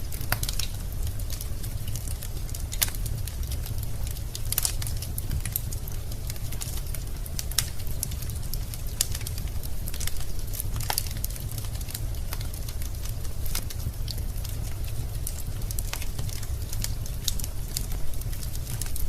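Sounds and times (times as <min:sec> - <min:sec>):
logs crackling in fireplace: 0:00.0 - 0:19.0
low rumble of fire: 0:00.0 - 0:19.0.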